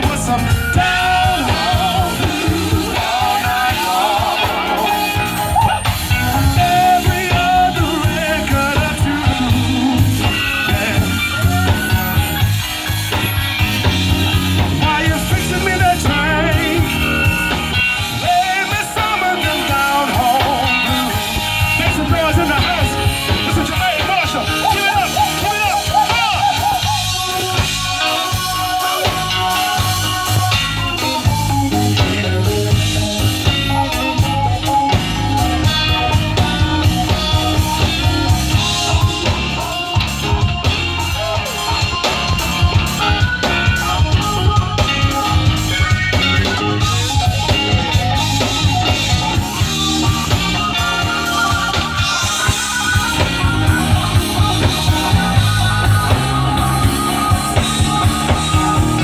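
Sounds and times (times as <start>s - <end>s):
person singing: 0.0s - 12.9s, 14.2s - 59.0s
electric guitar: 0.0s - 59.0s
live blues band: 0.0s - 59.0s.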